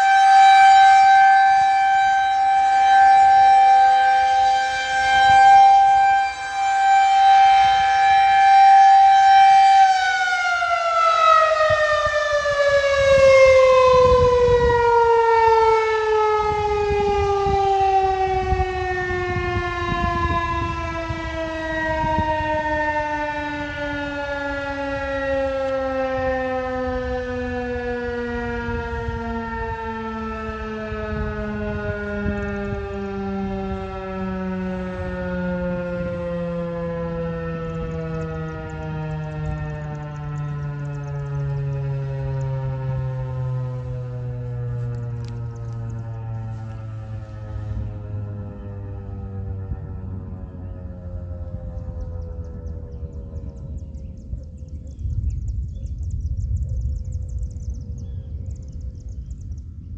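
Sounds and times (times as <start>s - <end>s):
rotating warning siren wailing: 0.0s - 59.9s.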